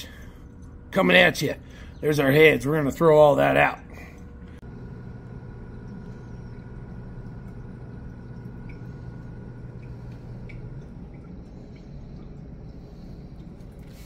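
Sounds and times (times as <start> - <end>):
electric still humming: 0.0 - 14.0.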